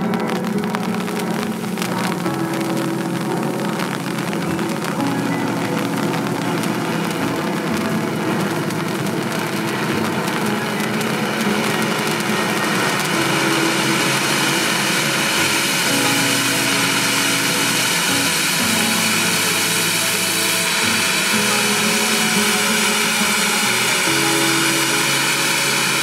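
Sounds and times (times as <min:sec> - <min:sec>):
fountain firework hissing and crackling: 0:00.0 - 0:26.0.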